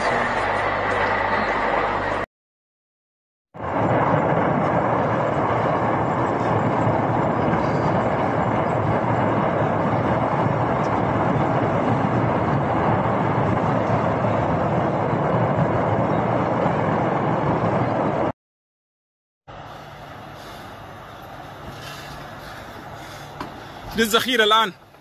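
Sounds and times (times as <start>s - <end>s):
steady rushing noise: 3.6s - 18.4s, 19.5s - 25.0s.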